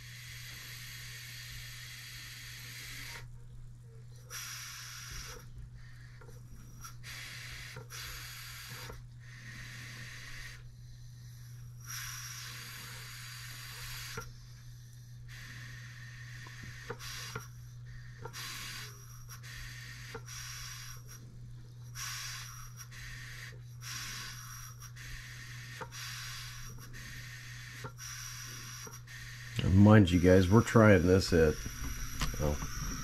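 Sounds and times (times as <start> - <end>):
compressed air hissing in bursts: 0.0 - 3.3, 4.2 - 6.0, 6.6 - 14.5, 15.2 - 33.0.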